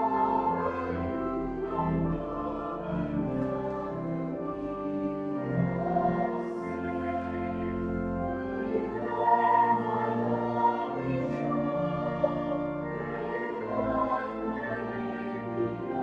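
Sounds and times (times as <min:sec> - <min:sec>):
church music with choir singing: 0:00.0 - 0:16.0.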